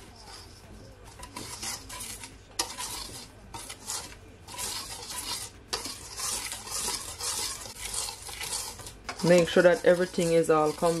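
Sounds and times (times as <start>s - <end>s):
whisk scraping in metal bowl: 0.0s - 11.0s.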